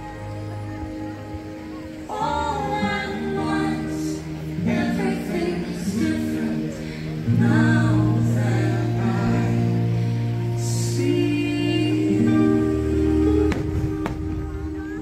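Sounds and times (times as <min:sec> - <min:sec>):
choir singing soundtrack music: 0:00.0 - 0:15.0.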